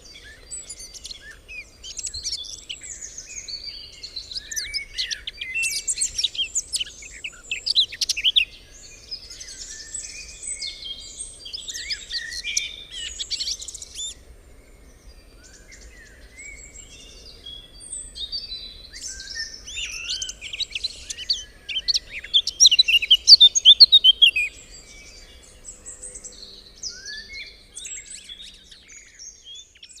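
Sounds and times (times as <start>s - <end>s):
songbirds chorus: 0.0s - 30.0s.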